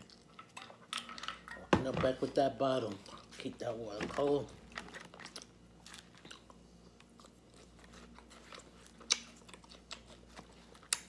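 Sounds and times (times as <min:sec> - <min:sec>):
person chewing lettuce: 0:00.0 - 0:01.0, 0:02.6 - 0:11.0.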